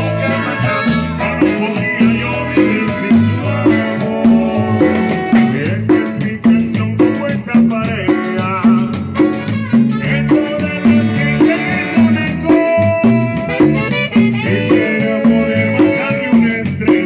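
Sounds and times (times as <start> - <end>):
saxophone melody: 0.0 - 6.0, 8.0 - 16.8
bouncing bass line: 0.0 - 17.0.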